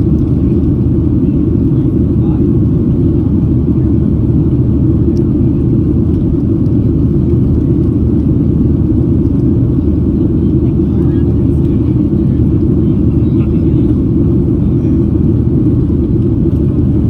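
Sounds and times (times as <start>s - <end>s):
airliner engine rumble in cabin: 0.0s - 17.0s.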